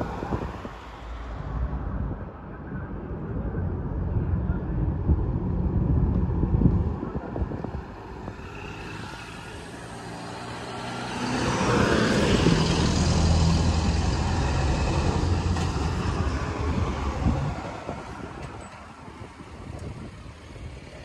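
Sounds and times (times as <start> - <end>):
large vehicle engine hum: 0.0 - 21.0.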